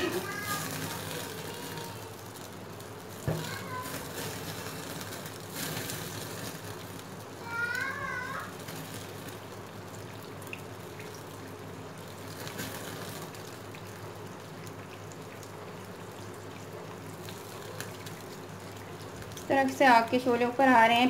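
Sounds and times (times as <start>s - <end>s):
eggs sizzling in oil: 0.0s - 21.0s.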